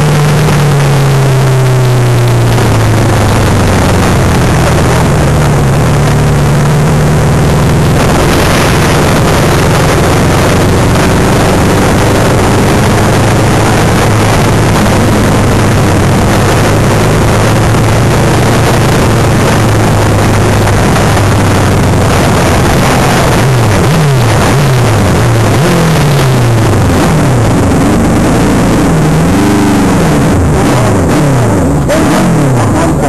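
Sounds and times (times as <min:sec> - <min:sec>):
racing engine revving: 0:00.0 - 0:33.0.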